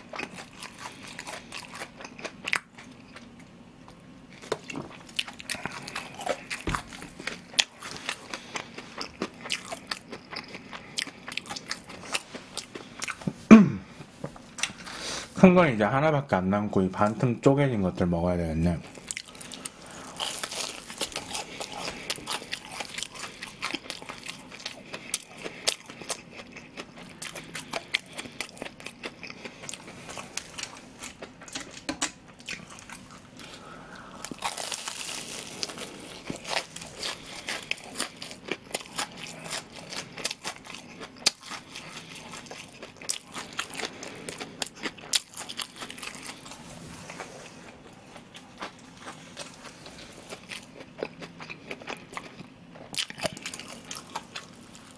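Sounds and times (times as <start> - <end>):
crunchy chewing: 0.0 - 3.5, 4.3 - 13.3, 18.8 - 54.9.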